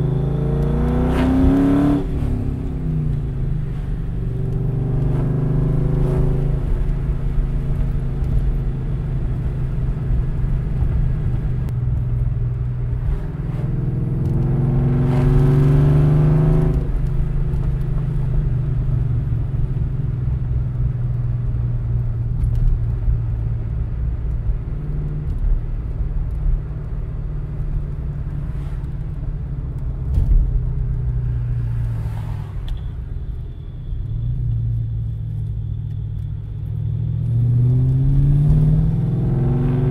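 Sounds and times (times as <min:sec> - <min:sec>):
car engine exhaust drone: 0:00.0 - 0:39.9.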